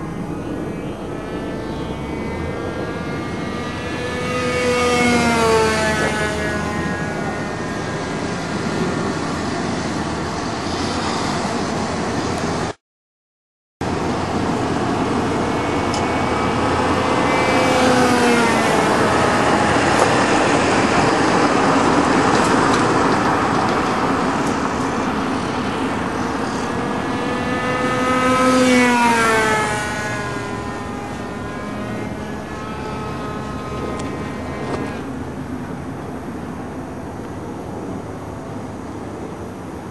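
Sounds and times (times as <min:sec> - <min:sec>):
model airplane engine buzzing: 0:00.0 - 0:12.8, 0:13.8 - 0:39.9.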